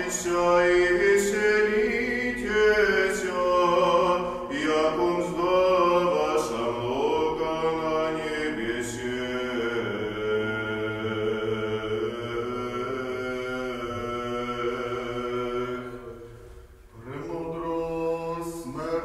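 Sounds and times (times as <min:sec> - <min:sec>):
men singing liturgical chant: 0:00.0 - 0:16.2, 0:17.0 - 0:19.0.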